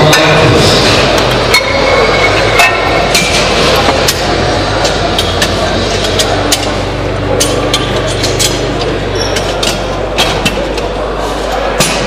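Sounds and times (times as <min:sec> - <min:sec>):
metal weight plates clanking: 0:00.0 - 0:11.0
steady hall hum: 0:00.0 - 0:12.0.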